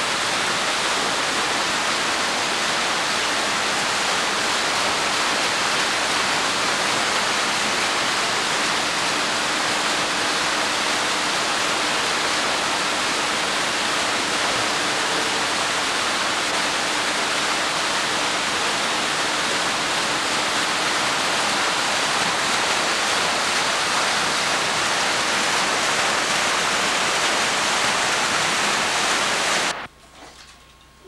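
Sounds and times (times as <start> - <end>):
water feature splashing: 0.0 - 30.8.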